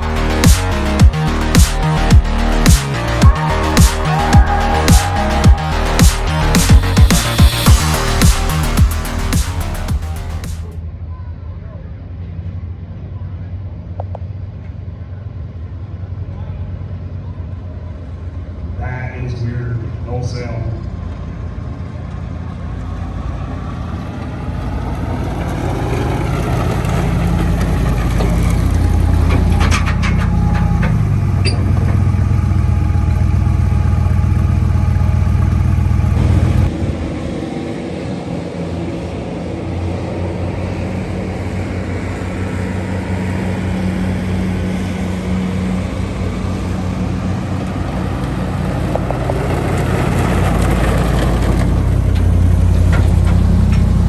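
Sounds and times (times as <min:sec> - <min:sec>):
heavy engine running: 0:00.0 - 0:11.0, 0:20.8 - 0:54.0.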